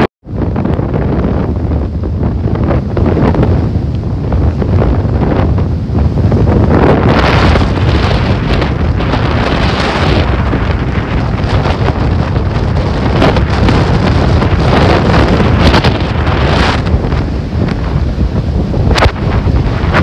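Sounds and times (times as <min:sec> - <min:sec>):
heavy low rumble: 0:00.0 - 0:20.0
rough sea rushing: 0:00.0 - 0:20.0
wind buffeting microphone: 0:00.0 - 0:20.0.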